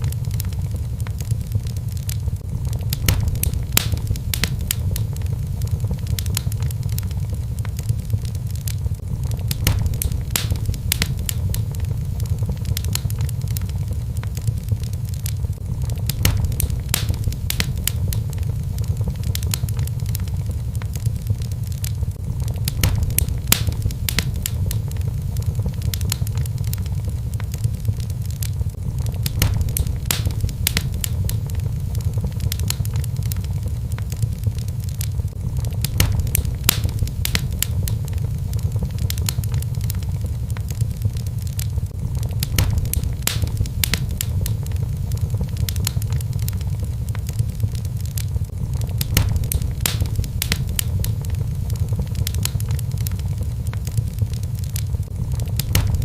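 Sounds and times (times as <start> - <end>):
fire crackling and popping: 0.0 - 56.0
low rumble of flame: 0.0 - 56.0.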